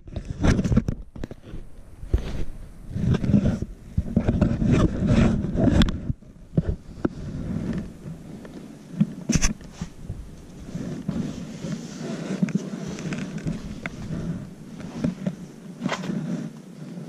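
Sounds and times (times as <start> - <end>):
clothing rustling: 0.2 - 17.0.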